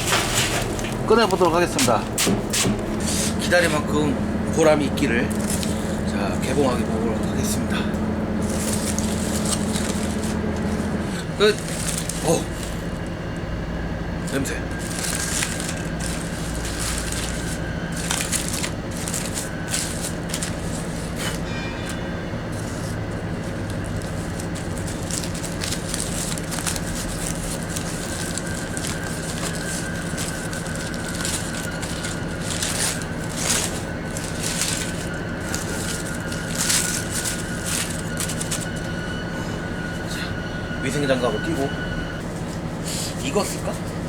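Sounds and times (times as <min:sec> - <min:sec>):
aluminium foil crinkling: 0:00.0 - 0:13.2, 0:14.2 - 0:40.1
steady low hum: 0:00.0 - 0:44.0.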